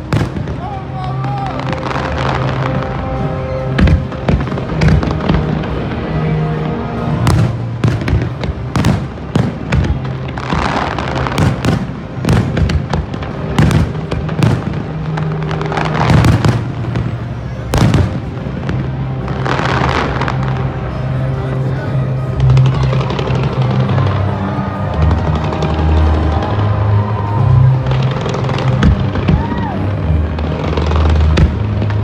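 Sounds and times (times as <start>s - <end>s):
fireworks bangs and booms: 0.0s - 21.3s, 22.2s - 32.0s
fireworks crackling bursts: 0.0s - 32.0s.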